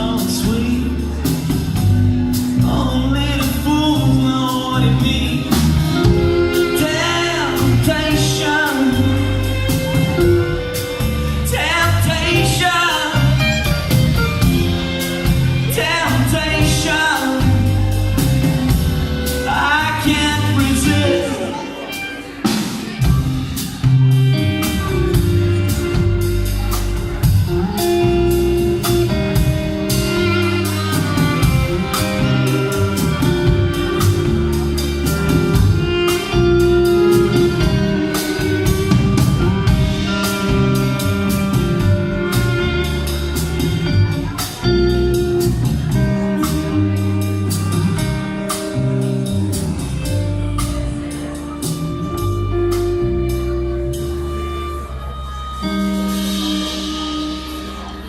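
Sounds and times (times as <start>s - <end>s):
bass notes: 0.0s - 58.0s
drum kit: 0.0s - 58.0s
guitar lines: 0.0s - 58.0s
live band playing: 0.0s - 58.0s.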